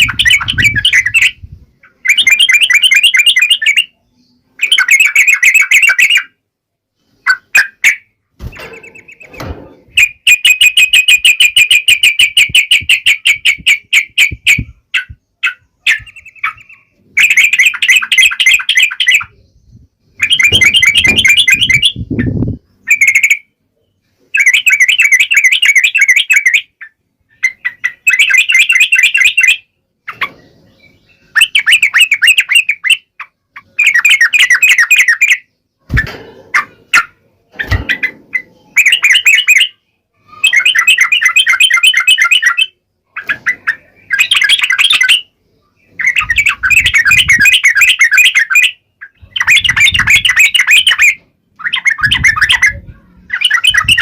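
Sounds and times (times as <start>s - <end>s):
bird singing sharp chatter: 0.0s - 6.4s, 7.0s - 54.0s.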